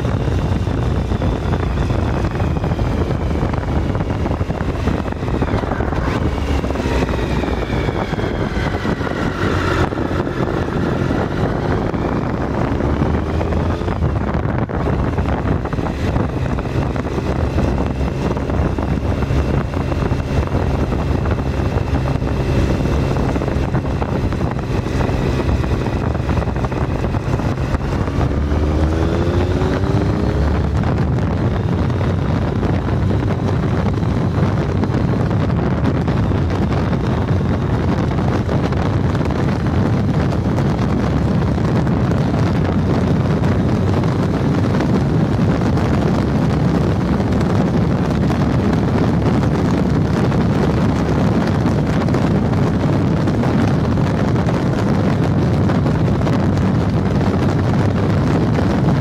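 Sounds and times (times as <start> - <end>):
motorcycle engine running: 0.0 - 59.0
whine shifting in pitch: 0.0 - 59.0
wind noise: 0.0 - 59.0.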